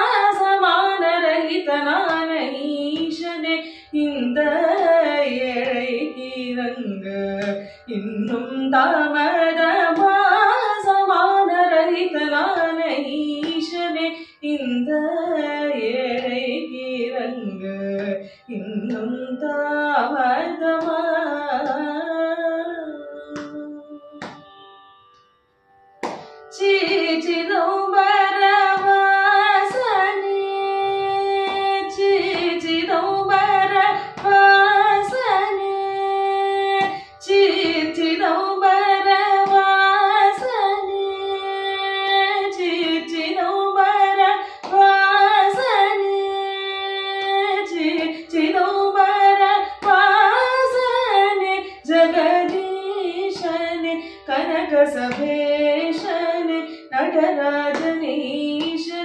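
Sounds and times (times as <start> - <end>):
woman singing: 0.0 - 24.5, 26.5 - 59.0.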